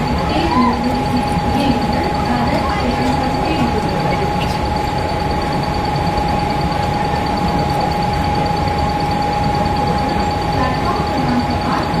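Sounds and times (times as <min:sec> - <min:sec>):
constant high whine: 0:00.0 - 0:12.0
continuous rumble: 0:00.0 - 0:12.0.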